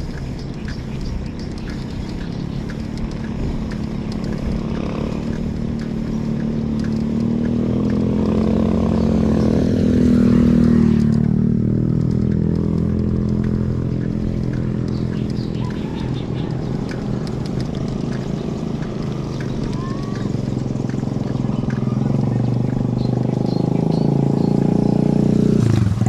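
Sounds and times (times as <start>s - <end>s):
vehicle engine revving: 0.0s - 26.0s.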